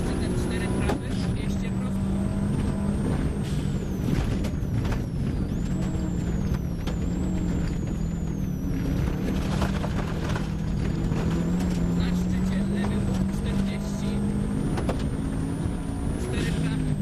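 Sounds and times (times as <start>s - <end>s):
rally car engine from inside cabin: 0.0s - 17.0s.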